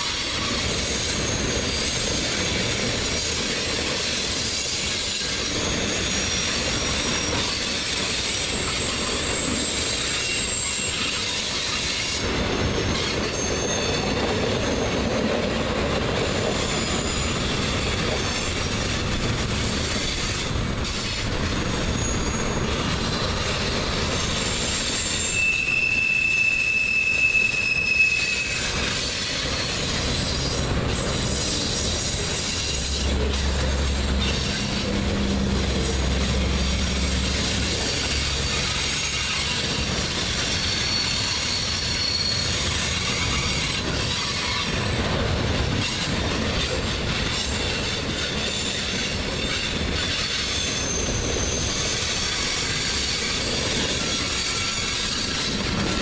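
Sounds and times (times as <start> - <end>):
freight train rumbling and rattling: 0.0 - 56.0
high metallic wheel squeals: 0.0 - 56.0.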